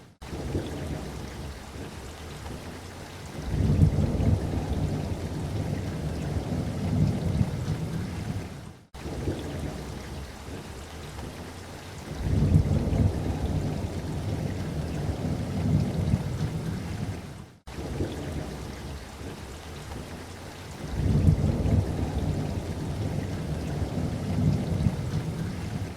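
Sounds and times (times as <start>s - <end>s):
light rain pattering: 0.0s - 25.9s
thunder rumbling: 0.2s - 2.2s, 3.4s - 10.6s, 12.1s - 20.1s, 20.8s - 25.9s.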